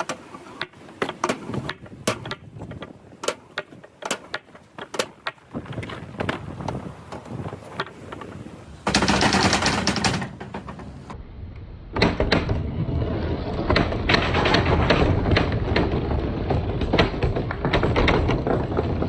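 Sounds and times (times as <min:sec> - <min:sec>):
balls rolling on wooden track: 0:00.0 - 0:11.2, 0:12.0 - 0:19.0.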